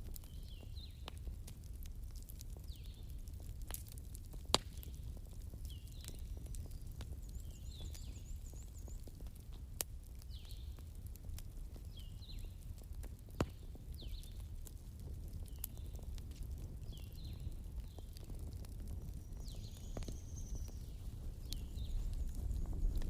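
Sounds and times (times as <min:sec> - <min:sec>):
bonfire crackling: 0:00.0 - 0:23.0
fire pops: 0:00.0 - 0:23.0.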